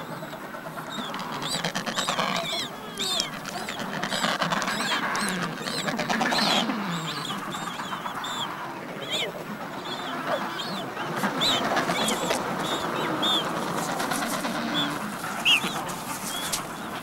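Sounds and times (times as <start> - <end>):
hubbub of penguin colony: 0.0 - 17.0
penguin chicks chirping: 0.1 - 17.0.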